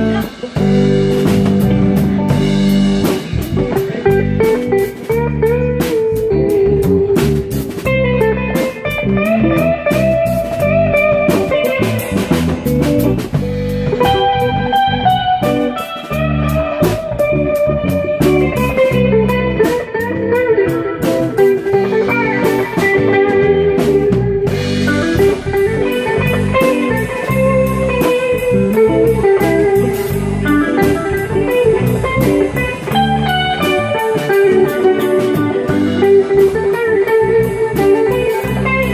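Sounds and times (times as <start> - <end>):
drum kit: 0.0 - 38.9
electric guitars: 0.0 - 38.9
guitar bending notes: 0.0 - 38.9.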